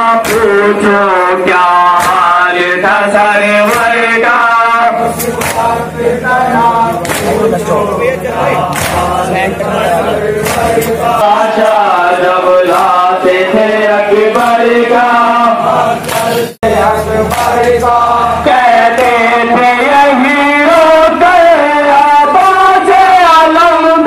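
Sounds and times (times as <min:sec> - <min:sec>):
men chanting a lament: 0:00.0 - 0:24.0.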